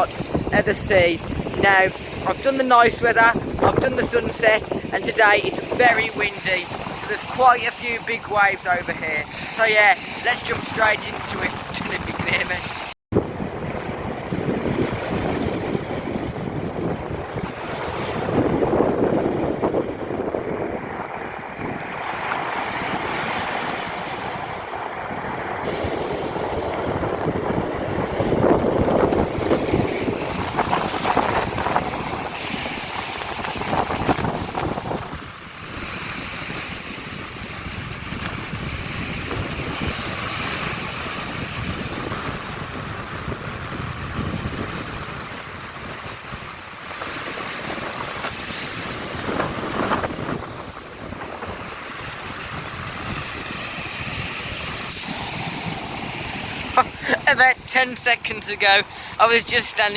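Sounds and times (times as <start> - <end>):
sea waves breaking on beach: 0.0 - 59.9
wind buffeting microphone: 0.0 - 59.9.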